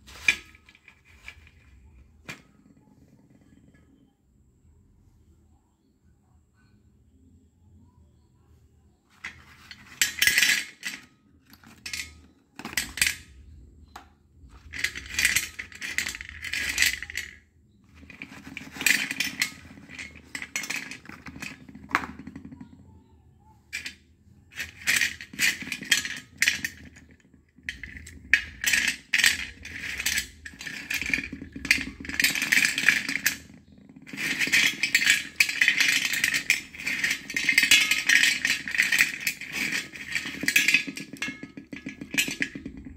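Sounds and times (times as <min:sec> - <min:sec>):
pencils clattering on metal plate: 0:00.0 - 0:04.0, 0:09.1 - 0:22.8, 0:23.7 - 0:42.9.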